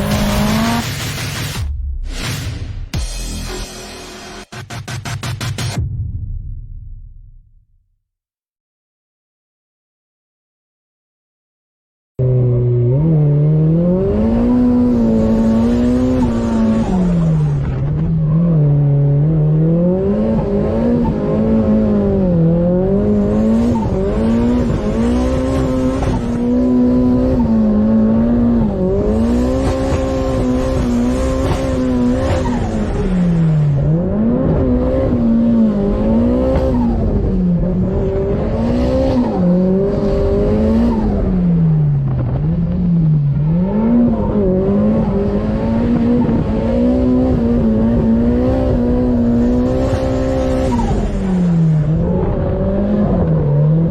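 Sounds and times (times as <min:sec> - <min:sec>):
car engine revving: 0:00.0 - 0:01.6, 0:12.2 - 0:53.9.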